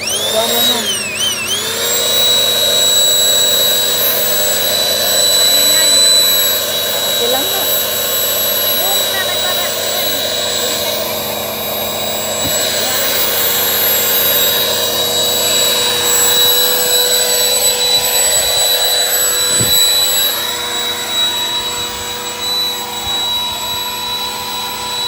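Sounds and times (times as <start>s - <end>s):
electric air pump running: 0.0s - 25.0s.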